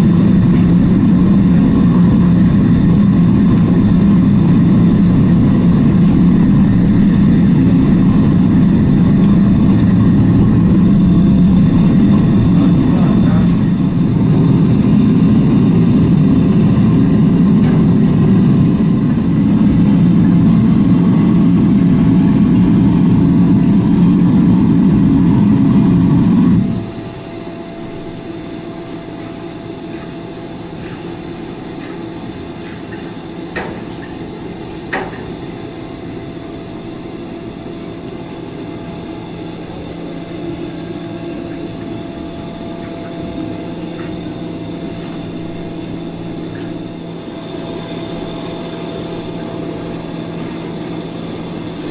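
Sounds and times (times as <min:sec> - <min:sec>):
machine motor running loudly: 0:00.0 - 0:51.9.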